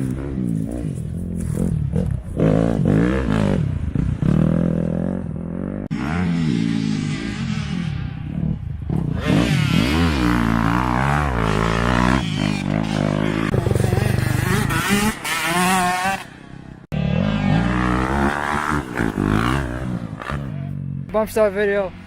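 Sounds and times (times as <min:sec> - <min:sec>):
dirt bike engine revving: 0:00.0 - 0:21.1.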